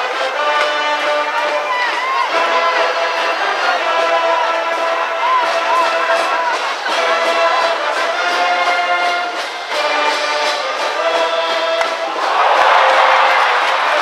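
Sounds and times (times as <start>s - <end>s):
brass band playing: 0.0s - 14.0s
crowd noise: 0.0s - 14.0s.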